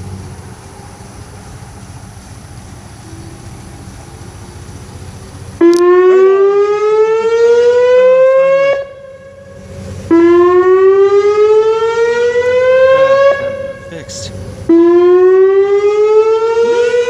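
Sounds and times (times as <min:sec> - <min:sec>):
rising warning siren: 0:02.9 - 0:17.0.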